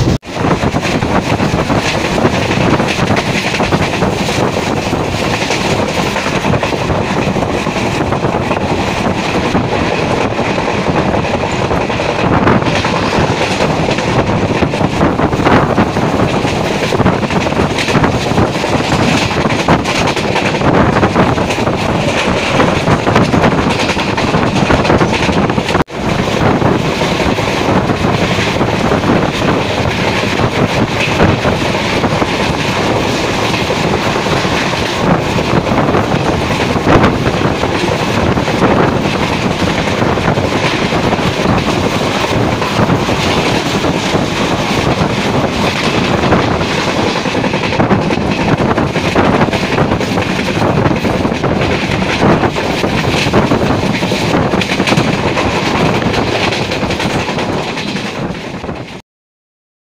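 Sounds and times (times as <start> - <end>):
clickety-clack from track: 0.0 - 59.0
train wheels and wind rushing: 0.0 - 59.0.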